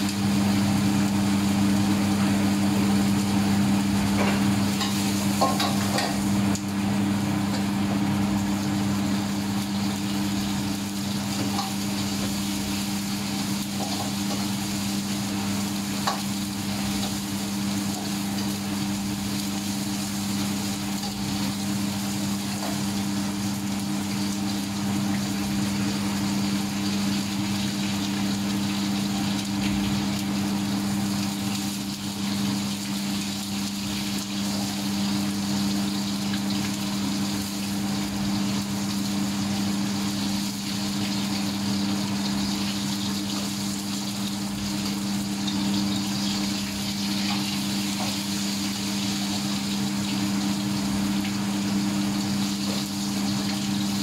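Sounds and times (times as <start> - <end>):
egg sizzling in oil: 0.0 - 54.0
low machine hum: 0.0 - 54.0.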